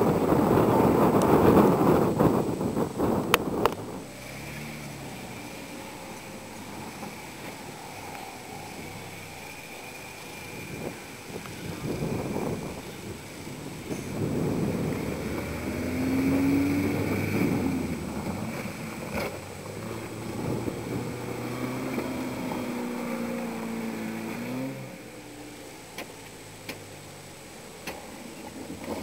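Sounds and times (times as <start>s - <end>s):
wind on microphone: 0.0s - 25.1s
off-road vehicle engine under load: 0.0s - 29.0s.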